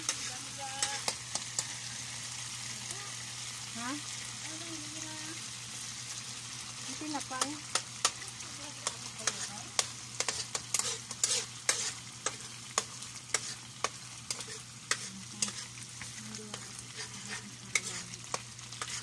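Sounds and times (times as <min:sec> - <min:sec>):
food frying hiss: 0:00.0 - 0:19.0.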